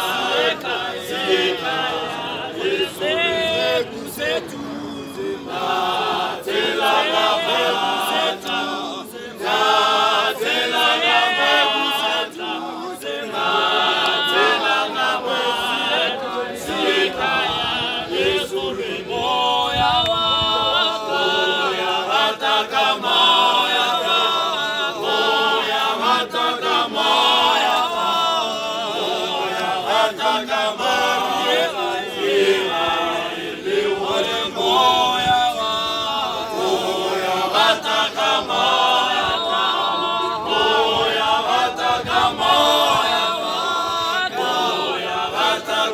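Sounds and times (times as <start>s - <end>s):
male choir singing a cappella: 0.0s - 45.9s.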